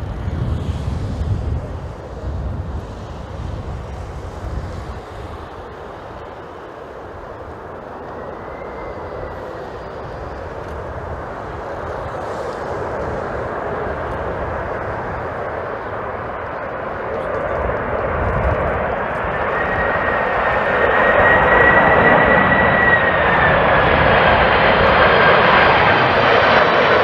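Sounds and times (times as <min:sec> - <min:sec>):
jet engines rushing: 0:00.0 - 0:27.0
wind buffeting microphone: 0:00.0 - 0:27.0
faint whine: 0:03.8 - 0:25.7.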